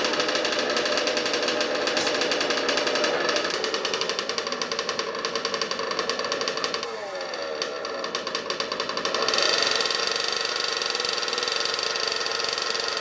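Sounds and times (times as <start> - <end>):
rc truck motor buzzing: 0.0 - 13.0.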